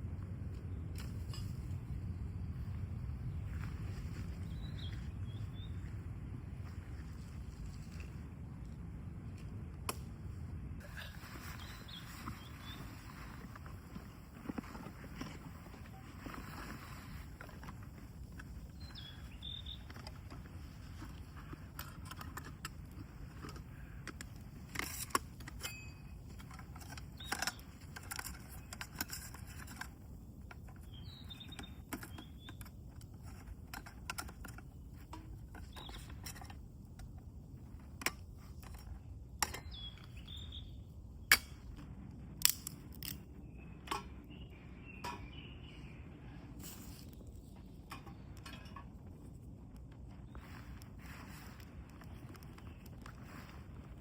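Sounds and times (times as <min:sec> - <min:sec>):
low outdoor rumble: 0:00.0 - 0:54.0.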